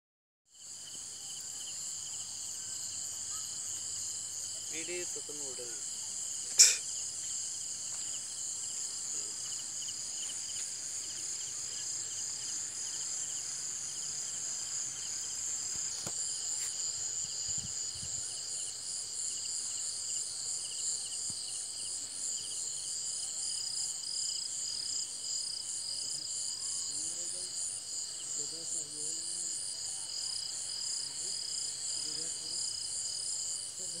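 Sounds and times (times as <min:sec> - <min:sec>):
night insects trilling: 0:00.5 - 0:34.0.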